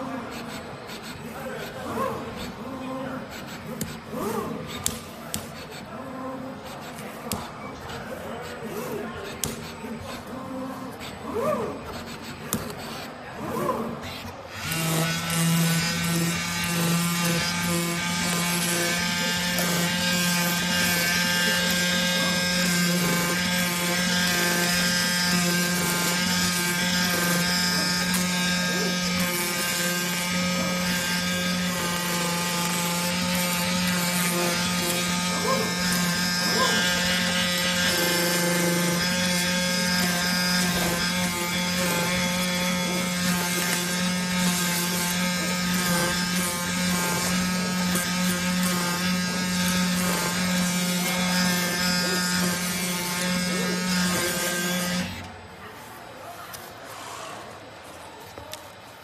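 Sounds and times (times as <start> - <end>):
knife cutter mechanical buzz: 0.0 - 55.4.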